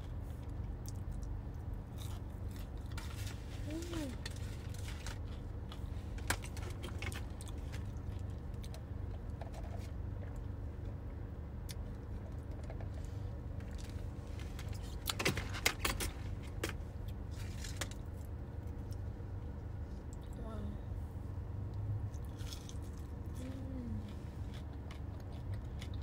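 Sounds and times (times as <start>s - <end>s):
car engine idling hum: 0.0s - 26.0s.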